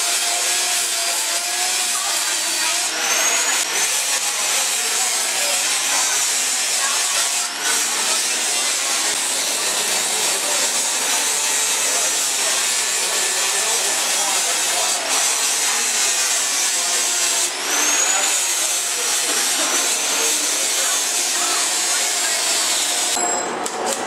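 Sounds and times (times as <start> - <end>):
angle grinder grinding metal: 0.0 - 24.0.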